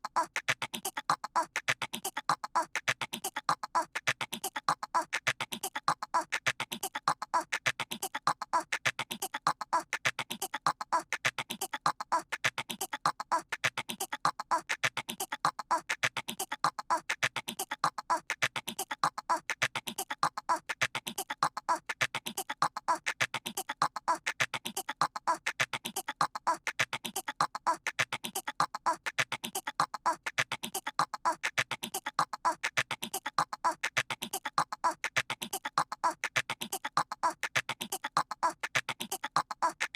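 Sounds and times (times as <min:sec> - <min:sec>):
child imitating squirrel chatter: 0:00.0 - 0:39.9.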